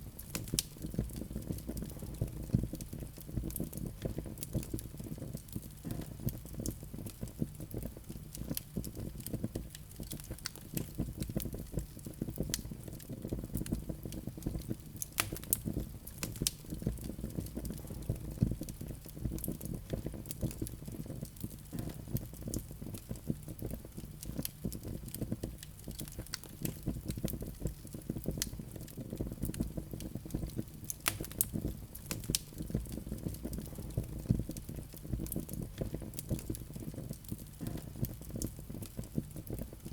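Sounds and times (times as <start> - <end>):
fire crackling and popping: 0.0 - 39.9
fire flames rumbling: 0.1 - 39.9.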